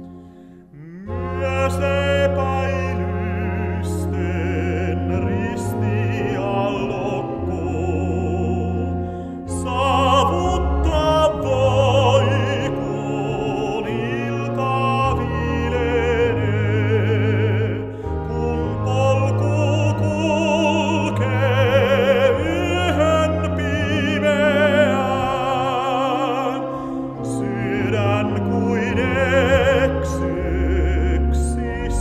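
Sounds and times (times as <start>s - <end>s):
pipe organ sustained chords: 0.0s - 32.0s
tenor singing a hymn: 0.7s - 32.0s.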